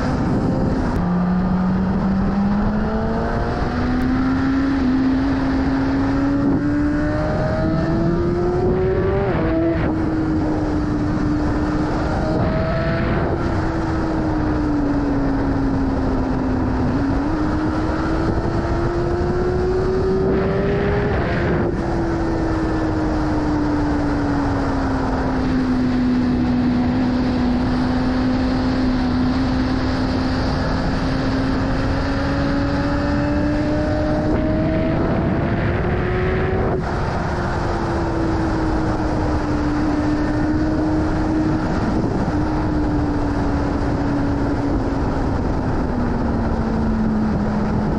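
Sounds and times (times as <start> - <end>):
motorcycle engine under way: 0.0 - 47.9
rushing wind: 0.0 - 47.9.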